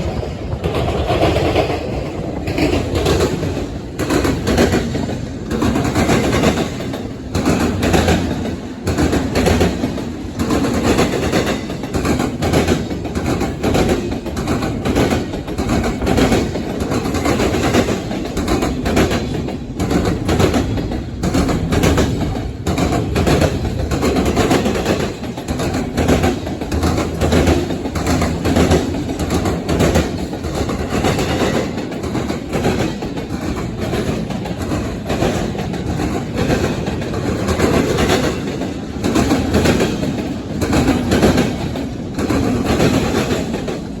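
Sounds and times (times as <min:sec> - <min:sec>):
freight train rolling past: 0:00.0 - 0:44.0
wheels clacking over rail joints: 0:00.0 - 0:44.0.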